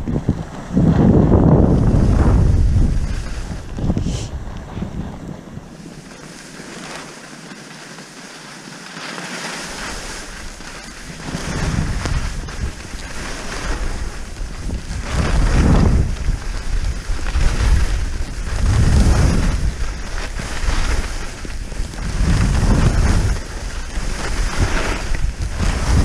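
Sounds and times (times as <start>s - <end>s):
wind rushing over microphone: 0.0s - 6.2s, 9.6s - 26.0s
skis hissing over snow: 1.6s - 26.0s.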